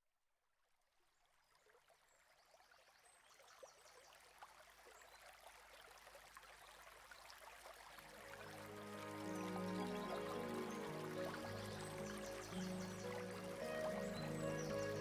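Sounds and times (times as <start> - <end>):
water trickling and splashing: 0.9 - 15.0.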